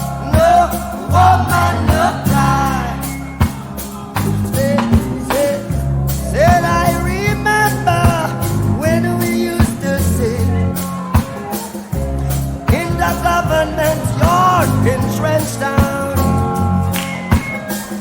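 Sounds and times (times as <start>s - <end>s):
rock song with sung vocal: 0.0s - 18.0s.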